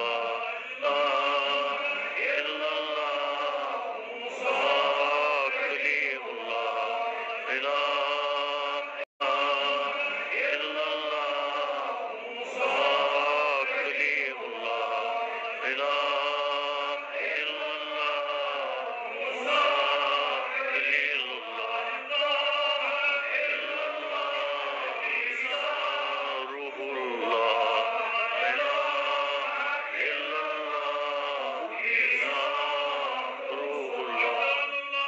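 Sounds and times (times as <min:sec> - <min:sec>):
man chanting: 0:00.0 - 0:35.0.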